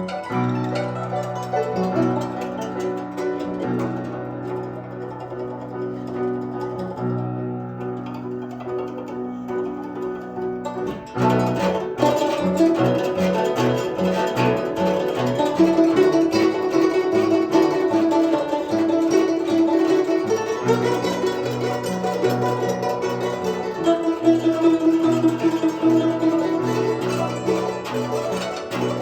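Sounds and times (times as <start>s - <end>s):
plucked zither melody: 0.0s - 29.0s.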